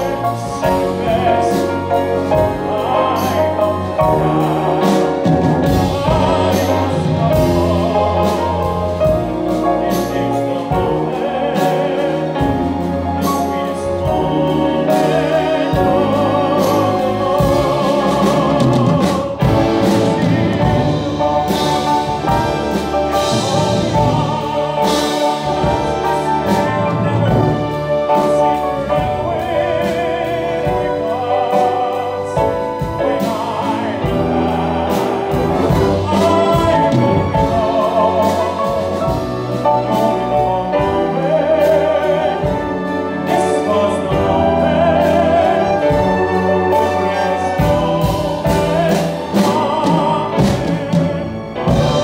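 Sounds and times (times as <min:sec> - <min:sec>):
man singing a ballad: 0:00.0 - 0:52.0
symphony orchestra: 0:00.0 - 0:52.0.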